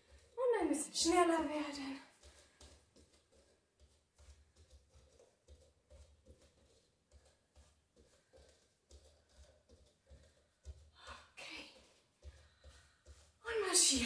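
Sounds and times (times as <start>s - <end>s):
bare feet on wooden floor: 0.0s - 14.0s.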